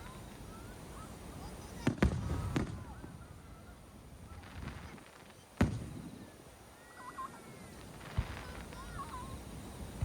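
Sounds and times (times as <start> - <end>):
fireworks bursting with bangs: 0.0 - 6.4, 7.5 - 10.0.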